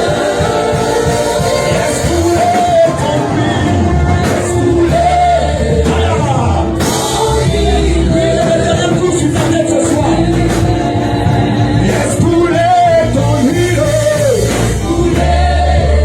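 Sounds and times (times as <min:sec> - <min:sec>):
band accompaniment: 0:00.0 - 0:16.0
voices singing: 0:00.0 - 0:16.0.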